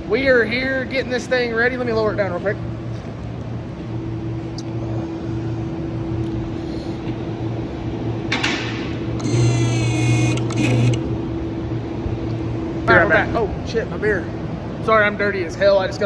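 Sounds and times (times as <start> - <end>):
vehicle lift mechanical hum: 0.0 - 16.0.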